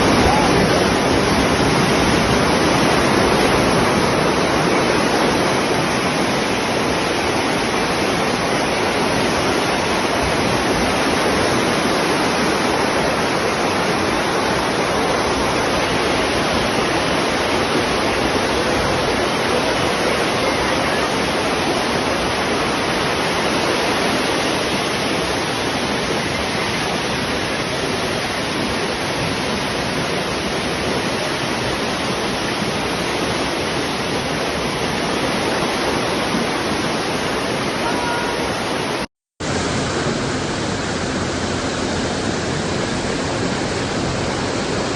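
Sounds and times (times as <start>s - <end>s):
floodwater rushing in a river: 0.0s - 44.9s.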